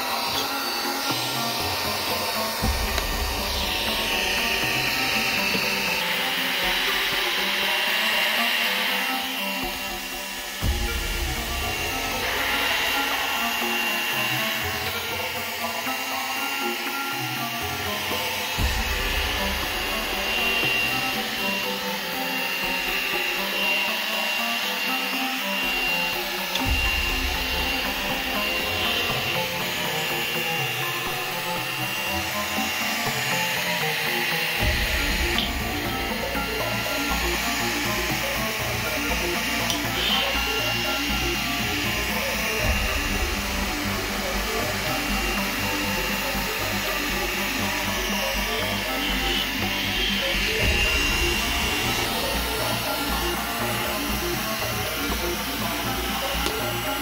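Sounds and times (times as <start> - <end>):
background music: 0.0 - 57.0
handheld vacuum cleaner whining: 0.0 - 57.0.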